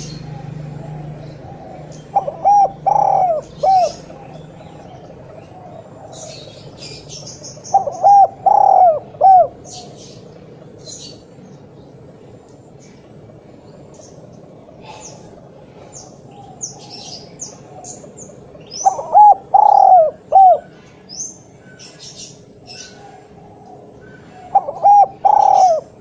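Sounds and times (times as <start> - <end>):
dove cooing: 0.0 - 10.2, 14.5 - 20.9, 21.6 - 26.0.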